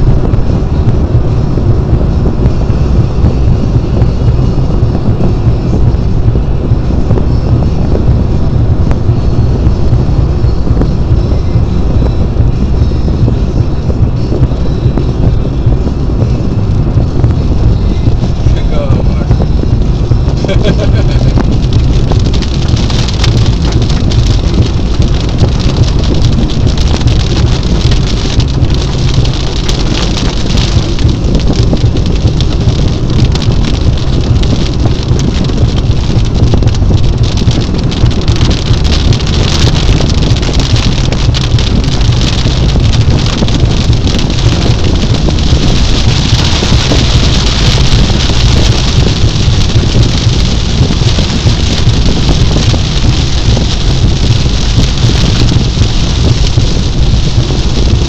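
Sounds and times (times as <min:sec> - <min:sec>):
rain and road spray hiss: 0:00.0 - 0:58.0
raindrops ticking on windshield: 0:00.0 - 0:58.0
tyres and engine rumble: 0:00.0 - 0:58.0.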